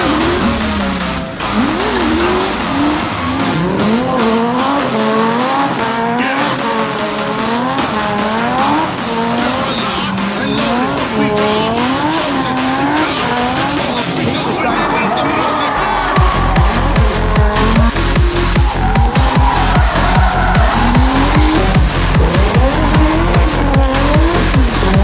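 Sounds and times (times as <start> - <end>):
car engine revving: 0.0 - 25.0
tyres squealing and skidding: 0.0 - 25.0.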